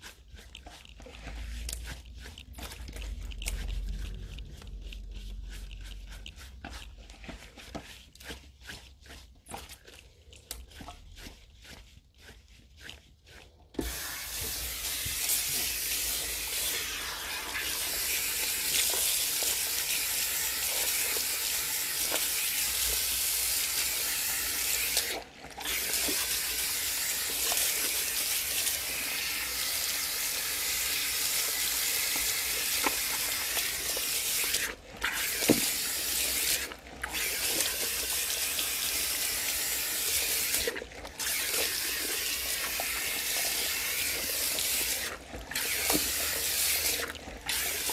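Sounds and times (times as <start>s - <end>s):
tap water rinsing hair: 5.2s - 47.9s.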